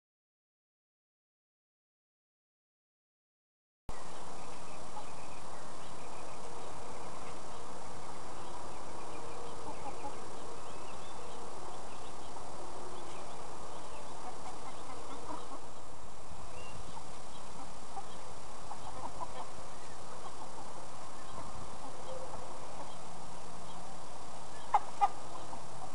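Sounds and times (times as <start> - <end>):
chickens calling: 3.9 - 25.9
steady background hiss: 3.9 - 25.9.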